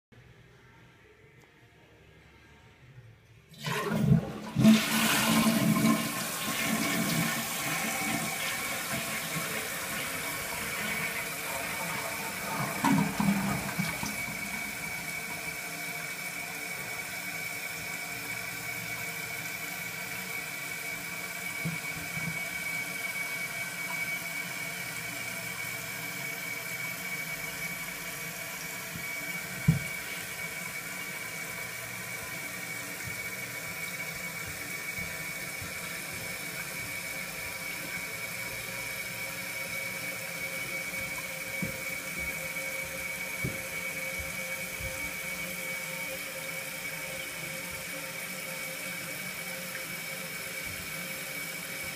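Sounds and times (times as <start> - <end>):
toilet tank refilling hiss: 3.5 - 51.9.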